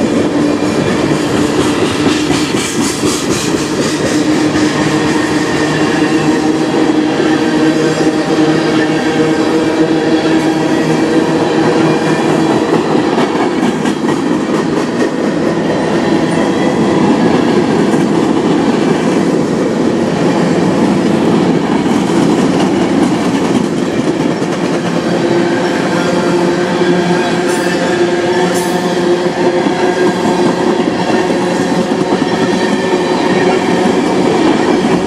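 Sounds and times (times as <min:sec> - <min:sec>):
steel wheels on rails: 0:00.0 - 0:35.0.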